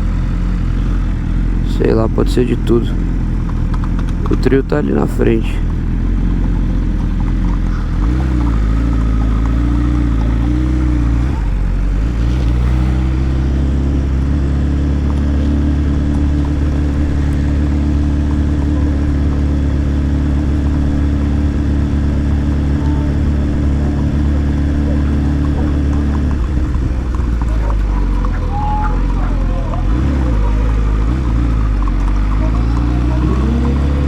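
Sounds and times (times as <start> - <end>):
motorbike engine revving: 0.0 - 34.0.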